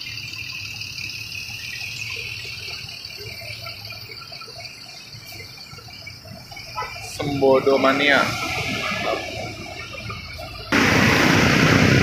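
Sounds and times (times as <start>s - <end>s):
steady high hiss: 0.0s - 12.0s
bus diesel engine rumbling: 1.0s - 12.0s.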